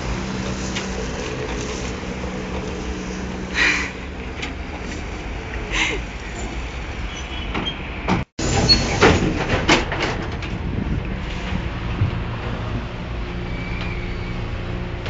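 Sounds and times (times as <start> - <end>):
rattling inside trolleybus: 0.0 - 15.0
street noise: 0.0 - 15.0
trolleybus moving off: 0.0 - 15.0.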